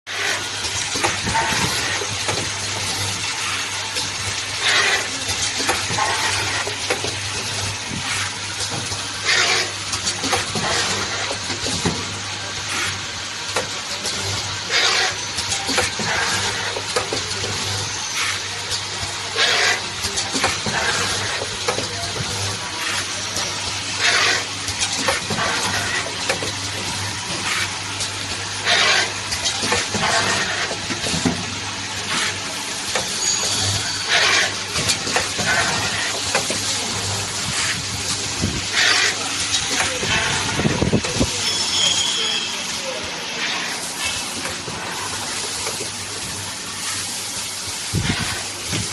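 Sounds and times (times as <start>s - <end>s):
machine hissing: 0.1s - 48.9s.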